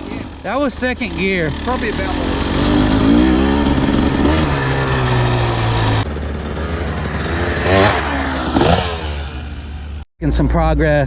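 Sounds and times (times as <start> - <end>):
dirt bike engine: 0.0 - 10.1.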